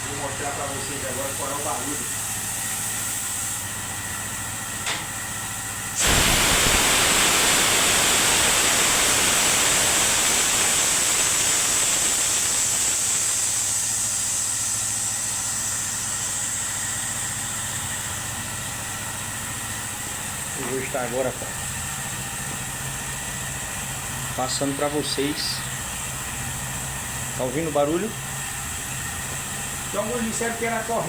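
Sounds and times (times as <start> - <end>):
loud steady hiss: 0.0 - 31.0.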